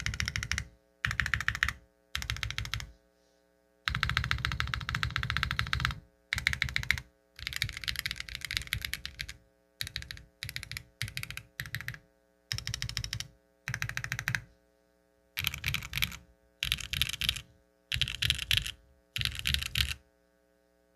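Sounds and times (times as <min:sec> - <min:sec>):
mechanical keyboard typing: 0:00.0 - 0:02.9, 0:03.9 - 0:14.5, 0:15.4 - 0:20.0.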